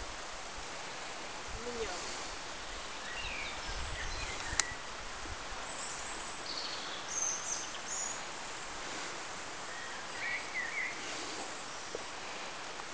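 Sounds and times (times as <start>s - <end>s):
steady background hiss: 0.0s - 12.9s.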